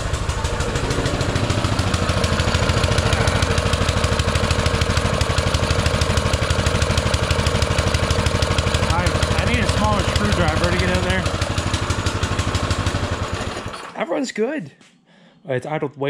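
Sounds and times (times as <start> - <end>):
small engine fast idle: 0.0 - 14.0.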